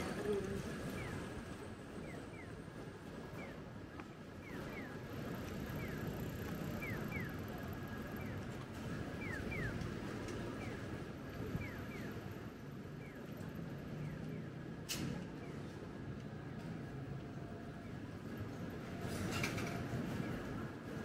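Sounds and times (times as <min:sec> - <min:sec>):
street traffic noise: 0:00.0 - 0:21.0.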